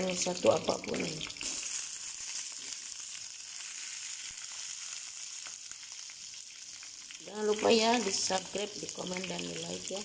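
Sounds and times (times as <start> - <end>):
eggplant frying in hot oil: 0.0 - 10.0.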